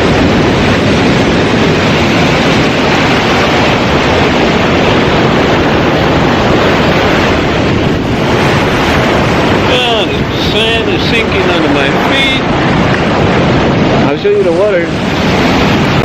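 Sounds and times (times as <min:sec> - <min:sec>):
ocean surf washing in: 0:00.0 - 0:16.0
wind buffeting microphone: 0:00.0 - 0:16.0.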